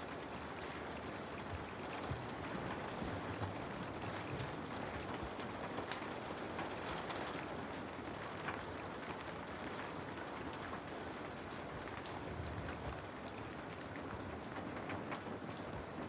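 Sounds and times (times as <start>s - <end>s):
rain falling: 0.0s - 16.0s
raindrops pattering on a surface: 0.0s - 16.0s.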